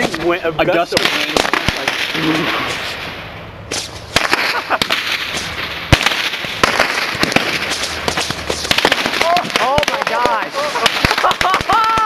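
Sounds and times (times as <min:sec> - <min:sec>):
fireworks popping and crackling: 0:00.0 - 0:12.0
loud firework bang: 0:00.9 - 0:12.0.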